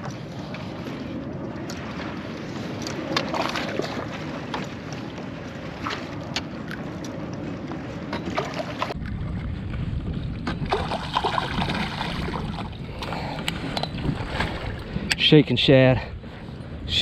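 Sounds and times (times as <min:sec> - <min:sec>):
water sloshing around kayak: 0:00.0 - 0:09.4, 0:10.3 - 0:15.3.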